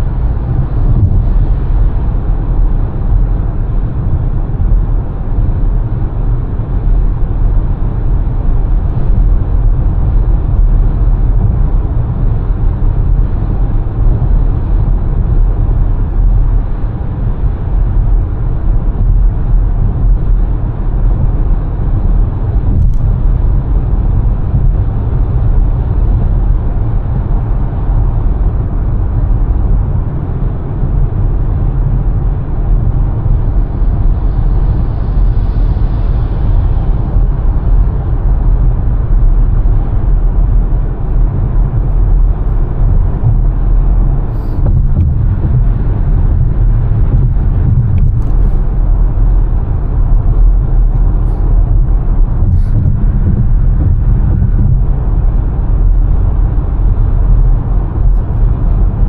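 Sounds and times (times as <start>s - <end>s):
car driving road rumble: 0.0s - 59.0s.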